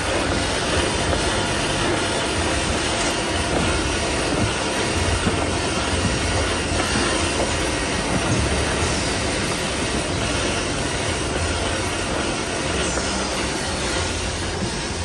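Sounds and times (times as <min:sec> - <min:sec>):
saw machine and conveyor running: 0:00.0 - 0:15.0.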